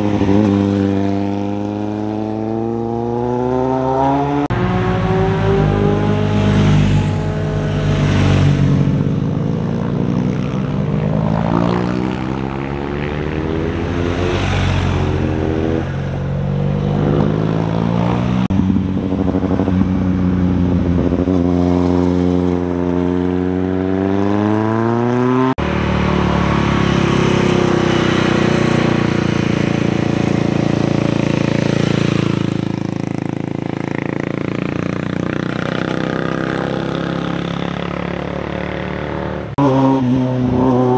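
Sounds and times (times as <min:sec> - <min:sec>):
motorcycle engines accelerating: 0:00.0 - 0:40.9.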